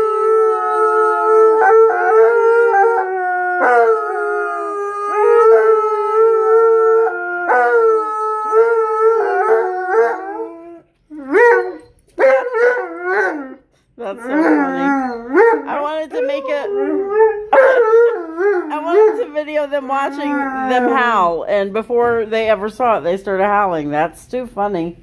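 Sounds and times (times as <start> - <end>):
dogs howling: 0.0 - 21.4.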